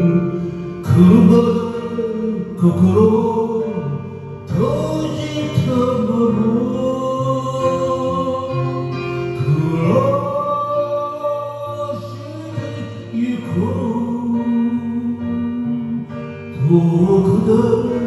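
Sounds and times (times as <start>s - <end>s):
ballad backing track with guitar: 0.0s - 18.0s
person singing long notes: 0.0s - 18.0s.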